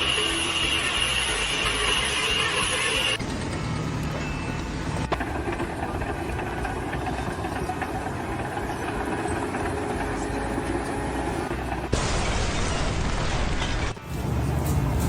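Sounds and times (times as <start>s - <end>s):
machinery rumbling: 0.0s - 15.0s.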